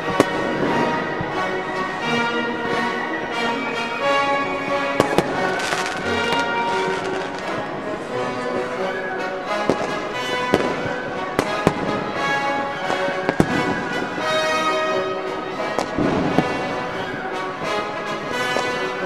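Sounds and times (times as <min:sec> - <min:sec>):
firework bangs: 0:00.0 - 0:08.1, 0:08.8 - 0:19.0
music with sustained tones: 0:00.0 - 0:19.0.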